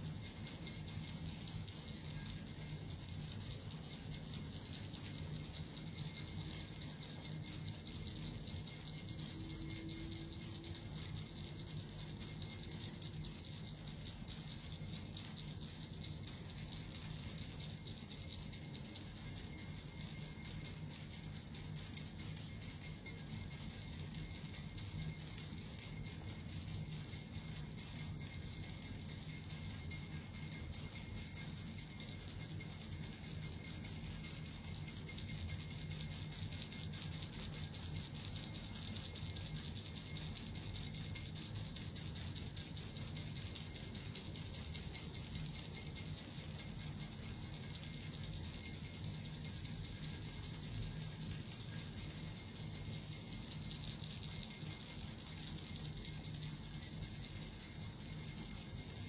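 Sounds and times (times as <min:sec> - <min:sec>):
small bells jingling: 0:00.0 - 0:59.0.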